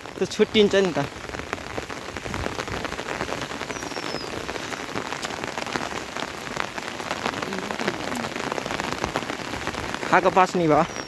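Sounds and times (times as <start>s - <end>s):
raindrops ticking on hard surface: 0.0s - 11.0s
steady rain: 0.0s - 11.0s.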